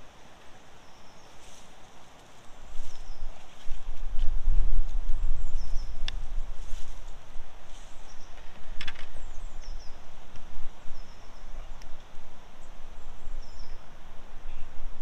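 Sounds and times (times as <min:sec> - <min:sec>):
small birds chirping: 0:00.0 - 0:14.8
wind rumbling on microphone: 0:00.8 - 0:15.0.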